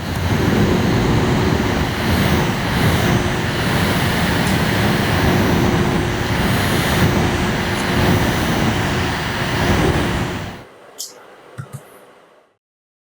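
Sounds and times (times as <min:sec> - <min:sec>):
electric fan rushing air: 0:00.0 - 0:12.6.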